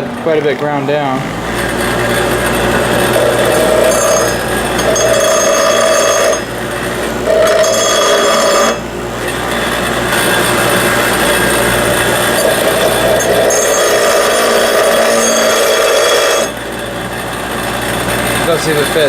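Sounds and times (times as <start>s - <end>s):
power grinder grinding metal: 0.0s - 19.0s.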